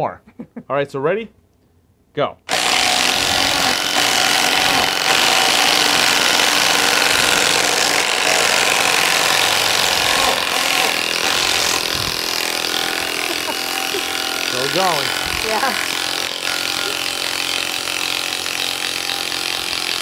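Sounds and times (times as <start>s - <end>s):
impact drivers rattling: 2.5s - 20.0s.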